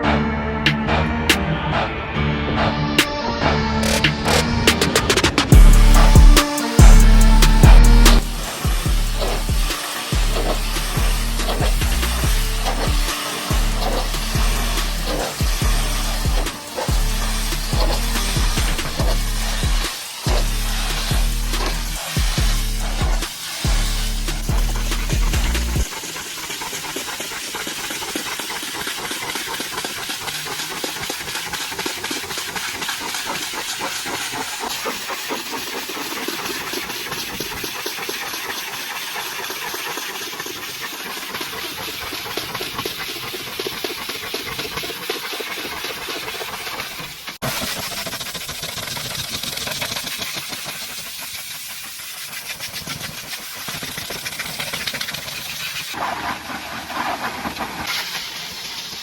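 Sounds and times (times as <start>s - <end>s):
pressure washer spraying water: 3.0s - 59.0s.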